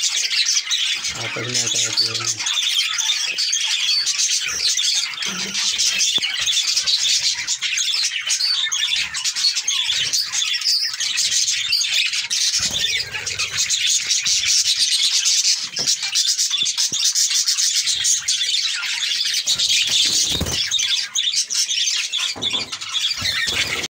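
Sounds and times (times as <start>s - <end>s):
small parrots chattering and chirping: 0.0s - 23.9s.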